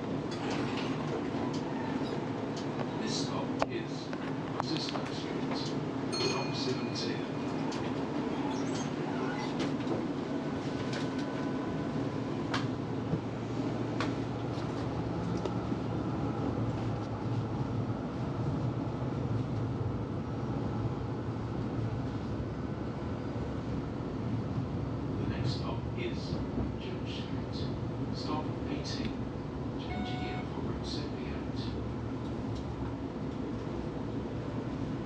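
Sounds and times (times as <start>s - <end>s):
tram rumbling on track: 0.0s - 35.0s.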